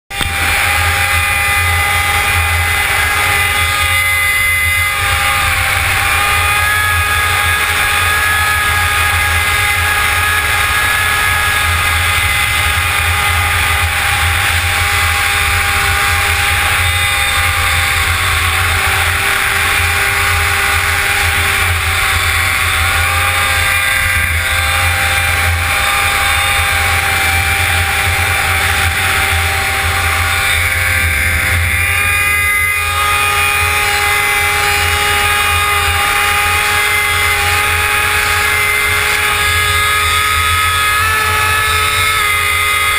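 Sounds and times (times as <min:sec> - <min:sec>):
snowmobile engine cruising: 0:00.1 - 0:42.9.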